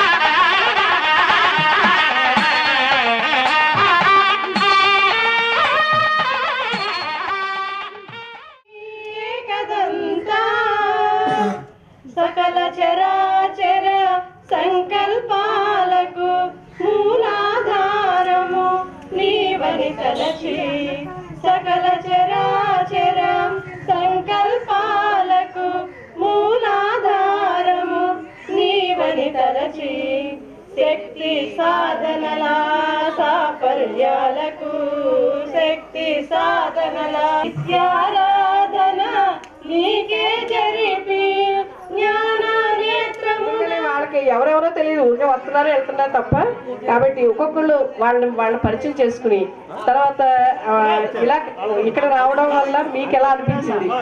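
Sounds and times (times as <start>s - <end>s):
high voice singing unaccompanied: 0.0s - 44.4s.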